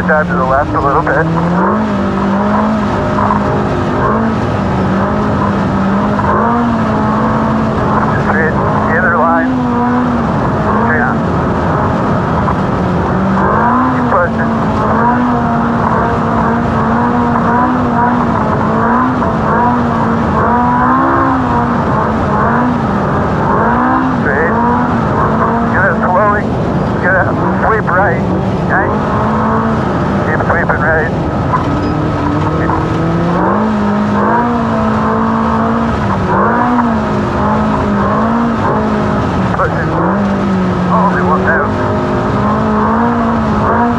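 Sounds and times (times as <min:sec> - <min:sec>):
loud steady rush of noise: 0:00.0 - 0:43.9
race car engine running hard: 0:00.0 - 0:43.9.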